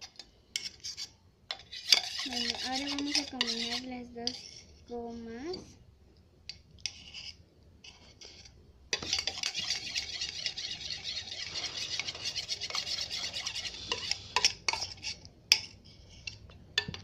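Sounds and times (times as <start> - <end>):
utensil stirring glue: 0.1 - 4.5, 6.8 - 16.5.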